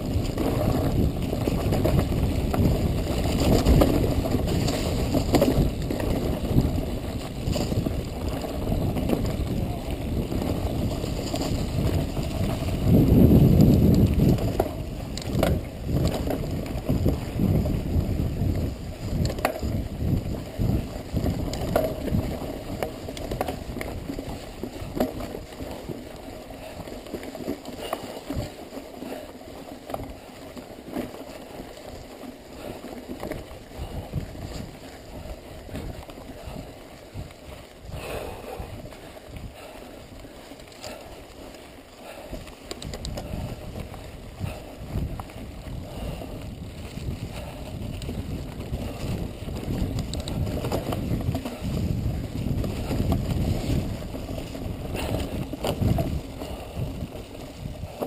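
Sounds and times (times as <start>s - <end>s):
bike rattling over rocks: 0.0s - 58.0s
bike tyre and wind rush: 0.0s - 58.0s.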